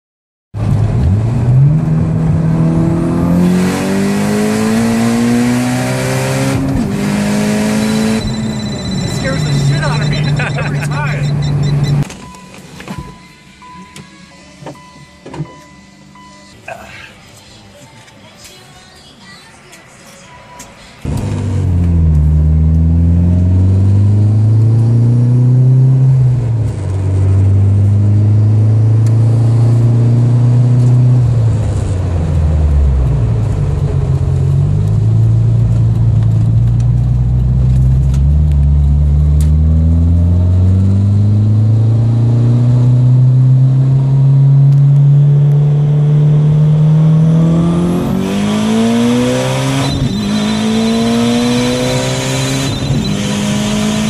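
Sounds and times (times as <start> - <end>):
turbocharged car engine accelerating: 0.6 - 12.1, 21.0 - 54.0.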